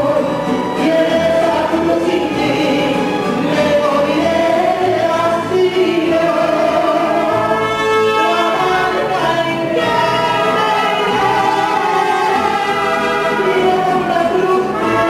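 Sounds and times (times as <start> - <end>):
guitarron: 0.0 - 15.0
trumpet: 0.0 - 15.0
violins: 0.0 - 15.0
woman singing into a microphone: 0.0 - 15.0.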